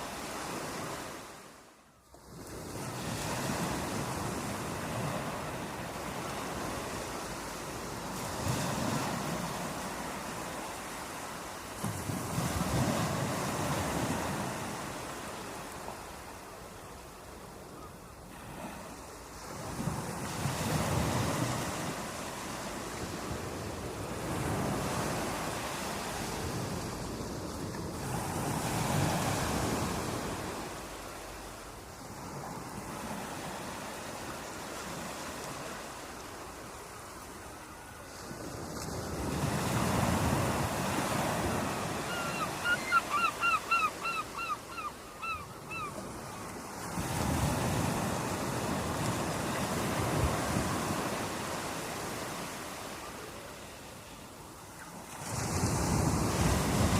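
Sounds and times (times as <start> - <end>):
sea waves breaking on shore: 0.0 - 56.9.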